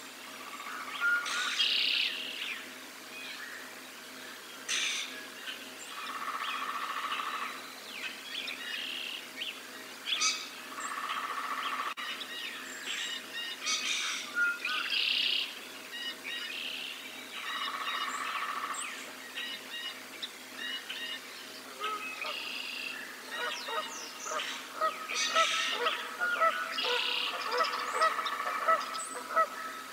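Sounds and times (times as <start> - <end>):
songbirds chirping: 0.2 - 29.9.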